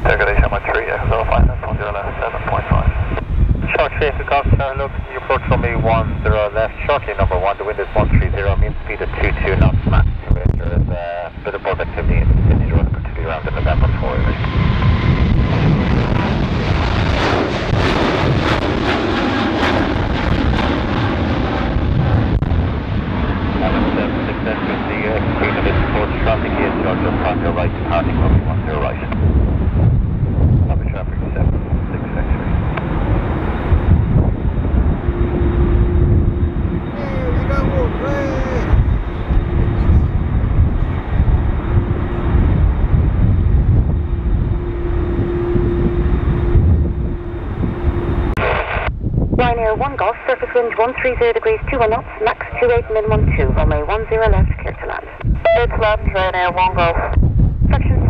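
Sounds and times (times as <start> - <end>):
jet engines roaring: 0.0 - 57.2
wind rumbling on microphone: 0.0 - 58.0.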